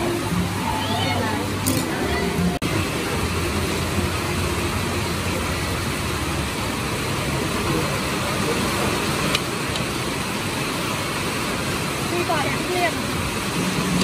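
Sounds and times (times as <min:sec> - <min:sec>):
rumbling background noise with hiss: 0:00.0 - 0:14.0.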